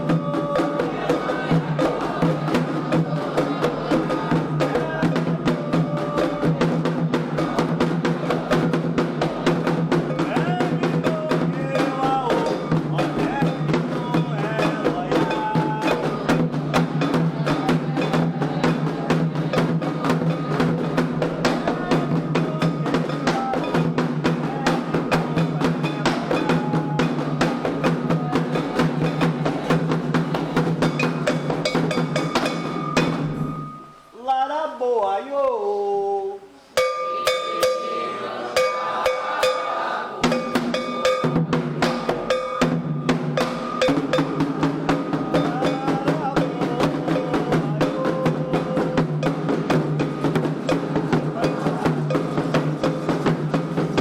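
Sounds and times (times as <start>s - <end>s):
voices singing: 0.0s - 33.2s, 34.1s - 54.0s
fast hand drumming: 0.0s - 33.6s, 38.6s - 54.0s.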